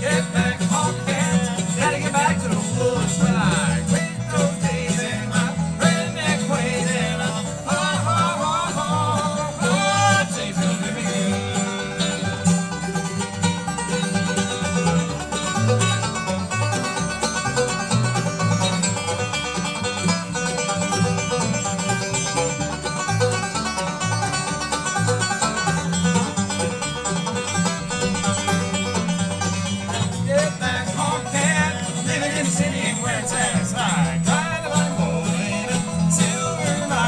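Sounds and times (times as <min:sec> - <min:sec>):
banjo picking: 0:00.0 - 0:37.0
bouncing bass line: 0:00.0 - 0:37.0
guitar picking: 0:00.0 - 0:37.0.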